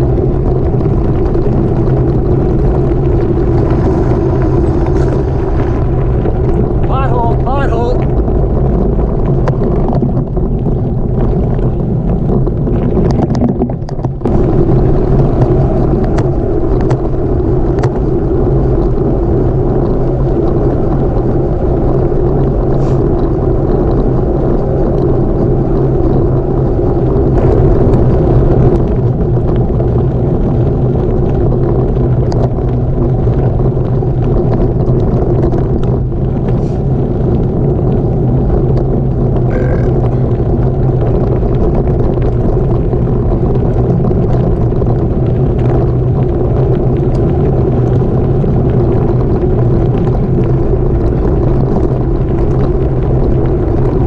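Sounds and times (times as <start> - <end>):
bike tyres rumbling on gravel: 0.0 - 54.0.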